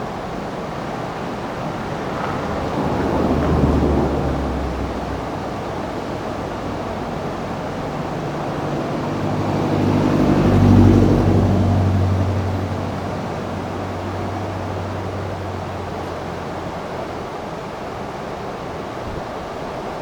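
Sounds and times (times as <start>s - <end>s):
rushing river water: 0.0s - 20.0s.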